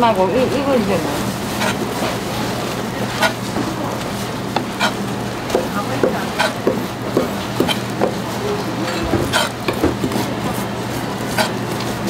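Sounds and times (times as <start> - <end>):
market hum: 0.0 - 12.0.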